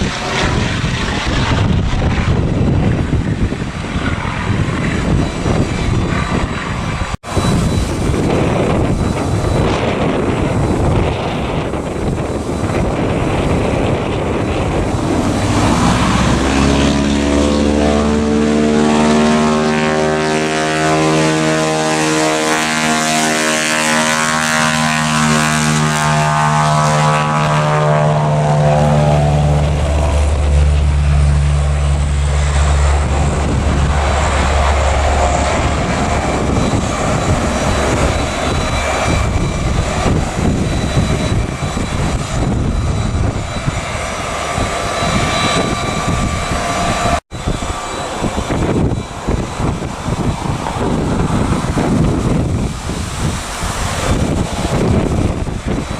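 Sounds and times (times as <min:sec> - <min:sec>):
propeller airplane flying past: 0:00.0 - 0:55.9.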